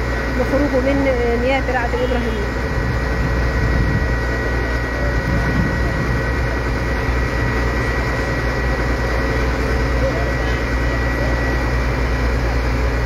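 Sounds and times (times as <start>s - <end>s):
crane engine droning: 0.0s - 13.0s
thin steady whine: 0.0s - 13.0s.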